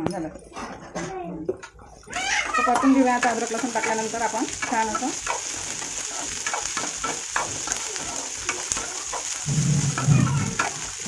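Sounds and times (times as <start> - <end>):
food sizzling in hot oil: 2.0 - 11.0.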